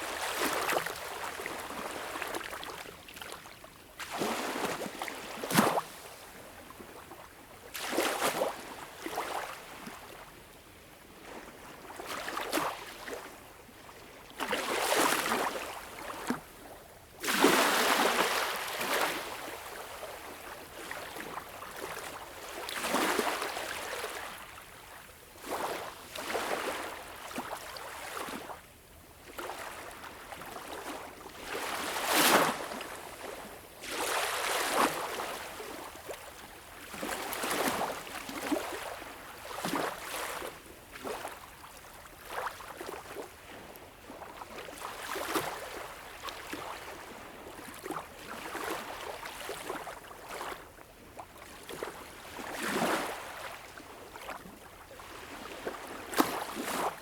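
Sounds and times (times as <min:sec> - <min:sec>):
small waves lapping on shore: 0:00.0 - 0:57.0.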